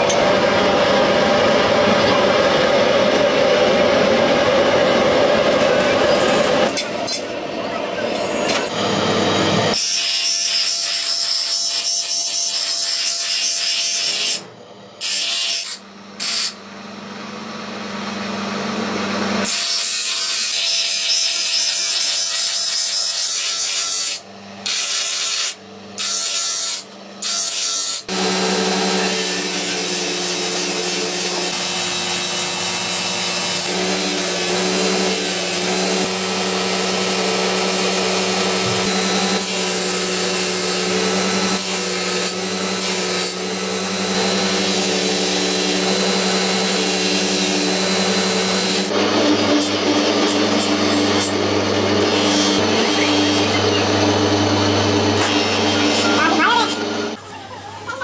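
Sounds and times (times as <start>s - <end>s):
power tool grinding steel: 8.0s - 16.6s, 18.8s - 57.2s.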